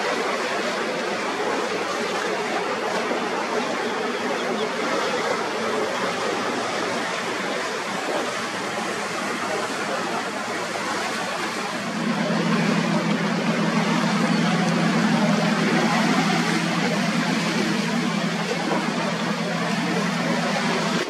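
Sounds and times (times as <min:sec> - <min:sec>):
boat engine drone: 0:00.0 - 0:21.0
rushing water and wash: 0:00.0 - 0:21.0
wind: 0:00.0 - 0:21.0.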